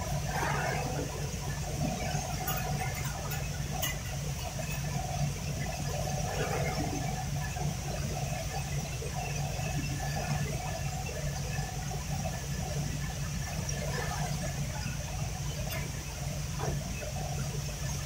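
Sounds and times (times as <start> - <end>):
machinery humming and hissing: 0.0 - 18.0.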